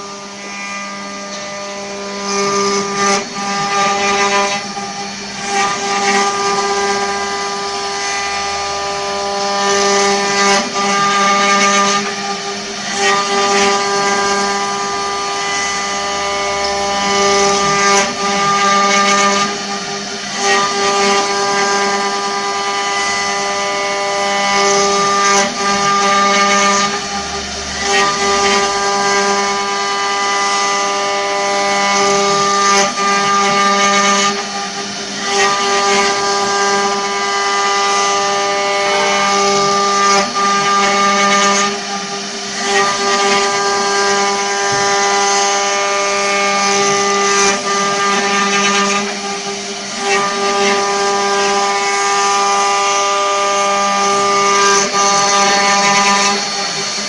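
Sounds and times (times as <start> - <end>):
bits cutting wood: 0.0 - 57.0
wood router spindle whine: 0.0 - 57.0.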